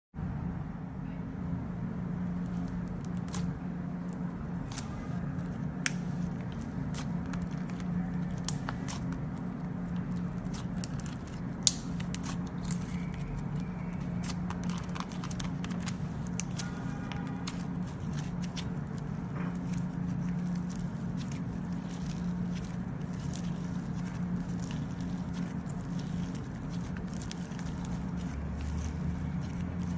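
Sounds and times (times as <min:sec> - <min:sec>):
steady low hum: 0:00.2 - 0:29.9.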